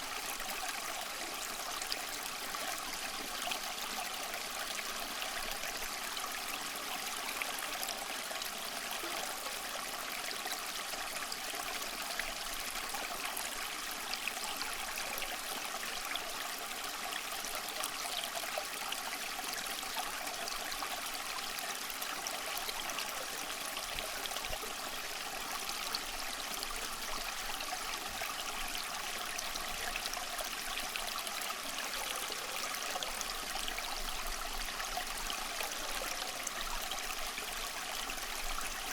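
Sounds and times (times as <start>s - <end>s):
stream of water trickling: 0.0s - 38.9s.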